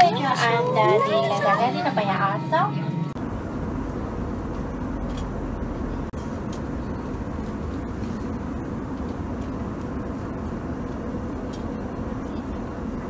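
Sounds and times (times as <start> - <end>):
airliner cabin rumble and hiss: 0.0 - 13.0.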